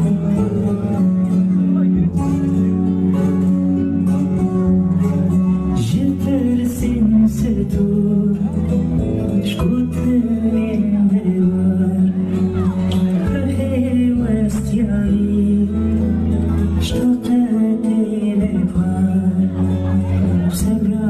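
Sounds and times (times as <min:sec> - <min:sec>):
loud music with singing: 0:00.0 - 0:21.0
steady bass: 0:00.0 - 0:21.0.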